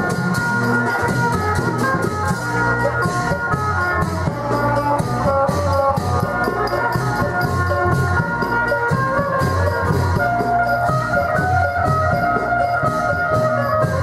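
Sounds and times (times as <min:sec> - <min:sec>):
upbeat music with drum beat: 0:00.0 - 0:14.0.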